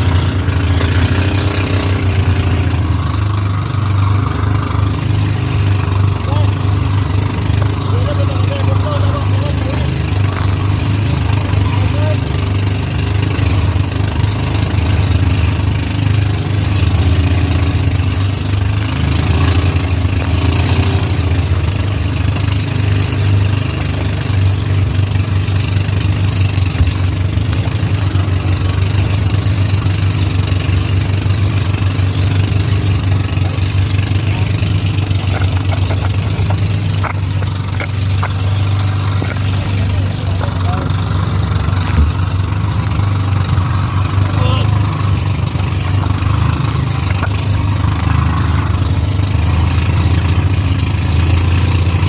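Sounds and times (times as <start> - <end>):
boat engine droning: 0.0 - 52.0
wind: 0.0 - 52.0.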